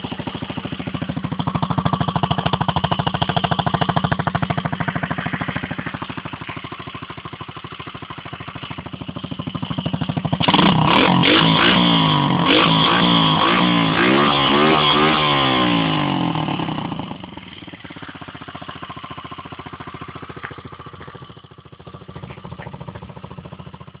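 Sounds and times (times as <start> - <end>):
dirt bike engine revving and idling: 0.0 - 24.0.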